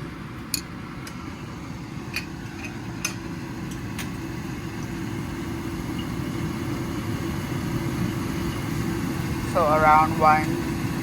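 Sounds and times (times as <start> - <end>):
kitchen machinery rumble: 0.0 - 11.0.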